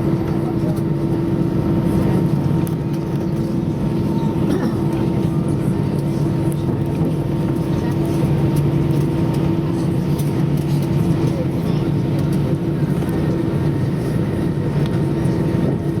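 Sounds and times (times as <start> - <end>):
aircraft engines idling drone: 0.0 - 16.0
low cabin hum: 0.0 - 16.0.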